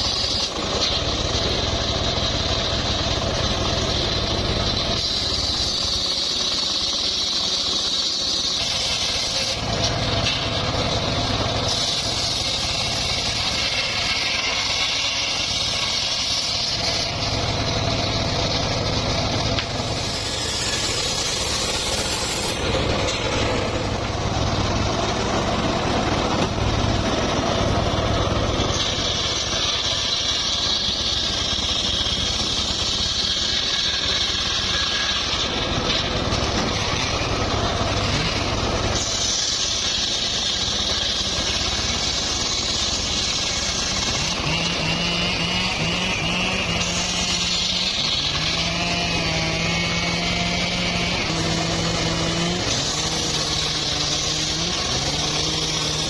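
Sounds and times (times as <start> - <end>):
engine-driven saw cutting wood: 0.0 - 56.0.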